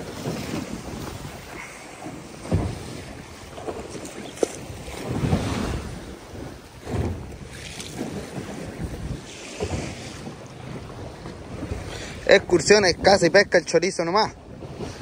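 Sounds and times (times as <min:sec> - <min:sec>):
waves washing around boat: 0:00.0 - 0:15.0
wind buffeting microphone: 0:00.0 - 0:15.0.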